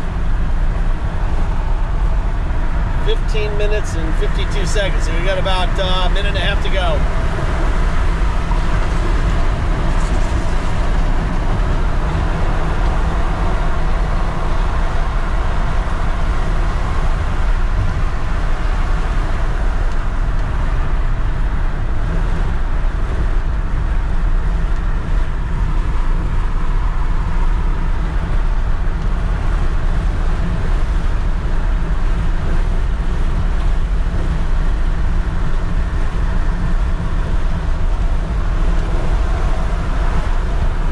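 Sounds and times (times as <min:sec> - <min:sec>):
truck engine running: 0:00.0 - 0:40.9
tyre and wind noise: 0:07.0 - 0:40.9.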